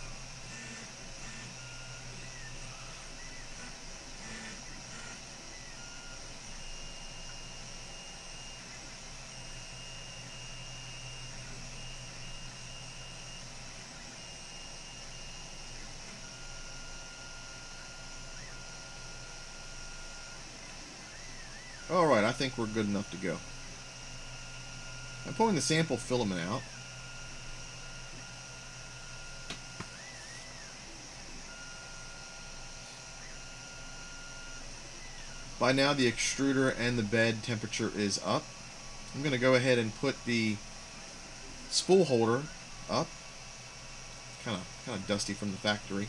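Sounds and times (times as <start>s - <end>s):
faint high whine: 0.0s - 46.0s
printer fans humming: 0.0s - 46.0s.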